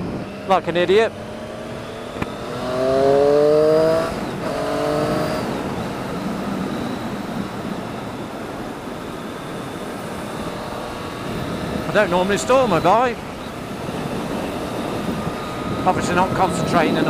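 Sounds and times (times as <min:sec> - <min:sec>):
motorcycle engine accelerating: 0:00.0 - 0:17.0
wind noise: 0:00.0 - 0:17.0.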